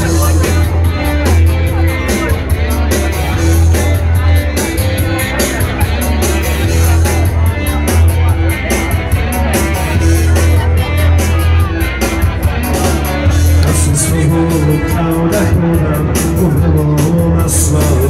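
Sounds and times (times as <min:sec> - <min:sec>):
guitar: 0:00.0 - 0:18.0
heavy bass line: 0:00.0 - 0:18.0
keyboard: 0:00.0 - 0:18.0
steady drum beat: 0:00.0 - 0:18.0.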